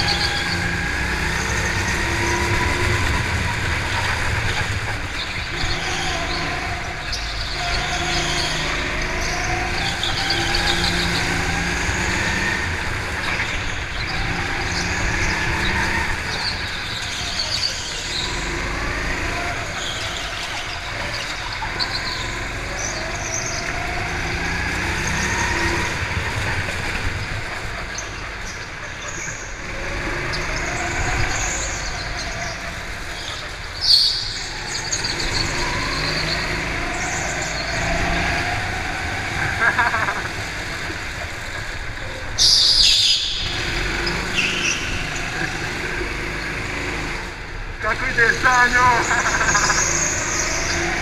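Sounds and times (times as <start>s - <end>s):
go-kart engine accelerating: 0.0s - 51.0s.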